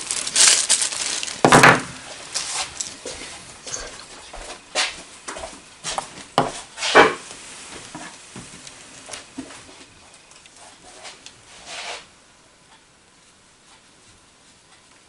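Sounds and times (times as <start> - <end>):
scraping rustle: 0.0 - 12.2.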